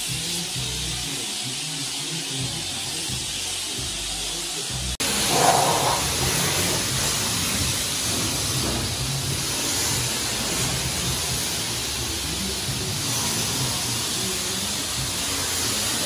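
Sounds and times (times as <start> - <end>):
pressure washer spraying water: 0.0 - 16.0.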